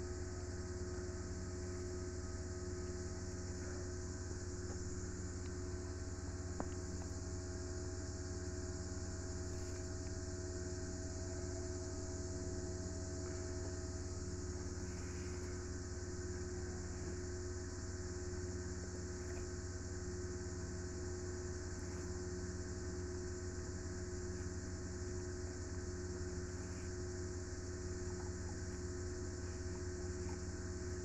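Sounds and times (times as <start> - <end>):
constant high hiss: 0.0 - 31.0
low steady hum: 0.0 - 31.0.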